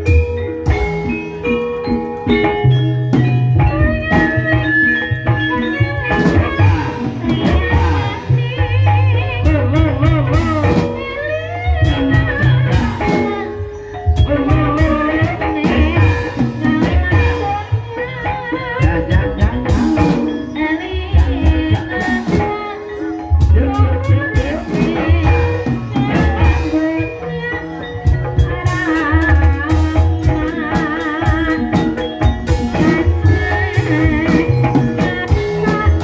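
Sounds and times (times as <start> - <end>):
gamelan music: 0.0 - 36.0
person singing: 0.0 - 36.0.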